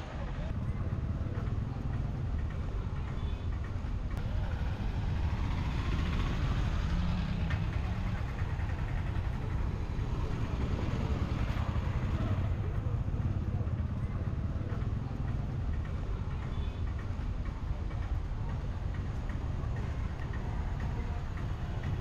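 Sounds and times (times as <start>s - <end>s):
steady low traffic rumble: 0.0s - 22.0s
vehicle engines running and idling: 0.0s - 22.0s.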